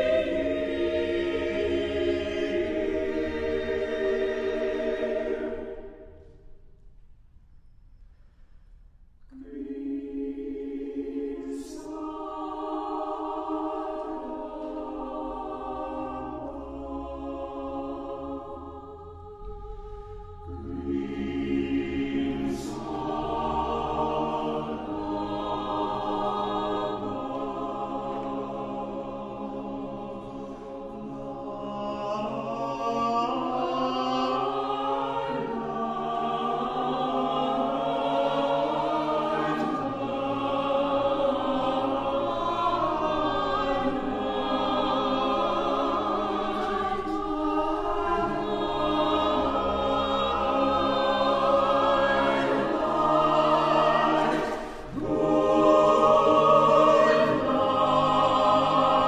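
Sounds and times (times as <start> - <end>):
choir singing in close harmony: 0.0 - 6.7, 9.3 - 59.0.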